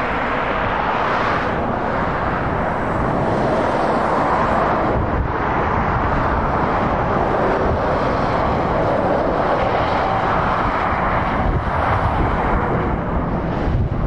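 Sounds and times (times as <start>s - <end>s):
tyre noise of passing traffic: 0.0s - 14.0s.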